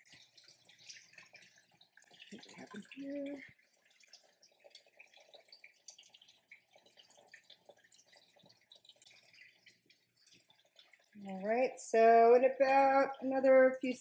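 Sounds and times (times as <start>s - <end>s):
light irregular crackle: 0.0s - 14.0s.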